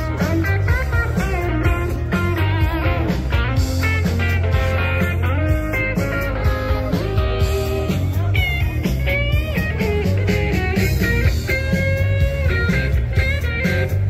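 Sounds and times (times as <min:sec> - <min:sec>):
electric guitar lead lines: 0:00.0 - 0:14.0
heavy steady bass: 0:00.0 - 0:14.0.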